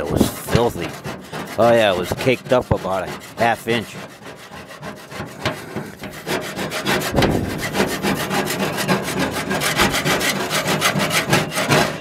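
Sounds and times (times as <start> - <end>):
putty knife scraping grease: 0.0 - 12.0.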